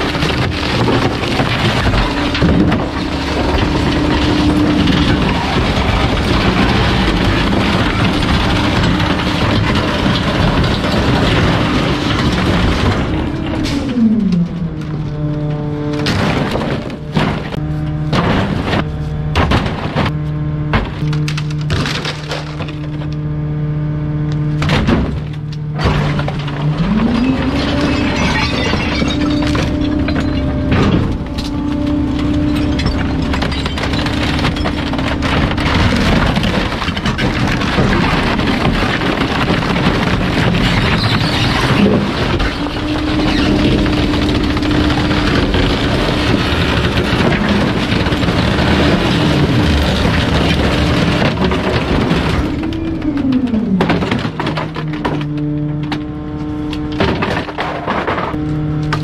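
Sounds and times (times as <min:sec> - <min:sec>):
wood cracking as crushed: 0:00.0 - 0:23.4, 0:24.2 - 0:59.0
truck engine revving: 0:00.0 - 0:59.0.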